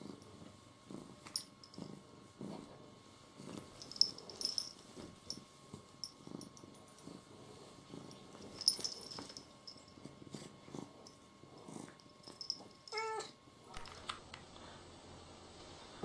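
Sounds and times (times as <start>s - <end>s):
cat purring: 0.0s - 13.8s.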